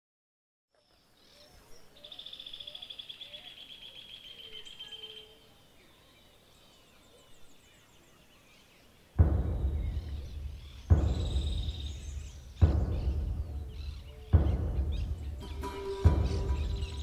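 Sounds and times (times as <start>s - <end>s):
soft low whistled bird calls: 0.7s - 17.0s
faint high bird twittering: 0.8s - 17.0s.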